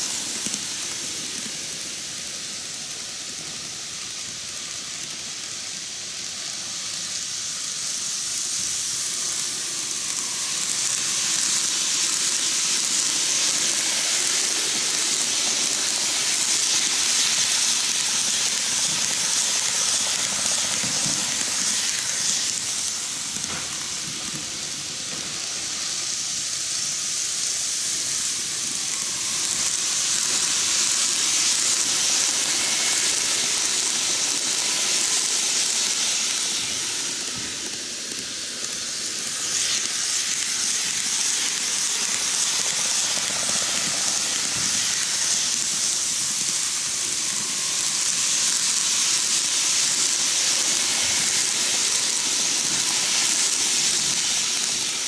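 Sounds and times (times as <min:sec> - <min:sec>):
model trains running on track: 0:00.0 - 0:55.0.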